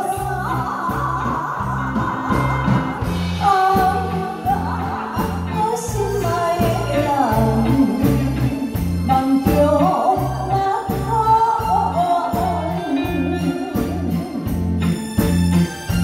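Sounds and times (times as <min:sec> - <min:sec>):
woman singing a ballad: 0:00.0 - 0:14.6
amplified band accompaniment: 0:00.0 - 0:16.0.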